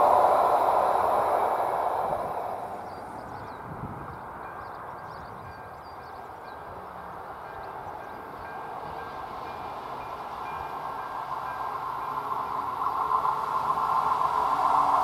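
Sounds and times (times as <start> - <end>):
distant passenger train rumble: 0.0 - 15.0.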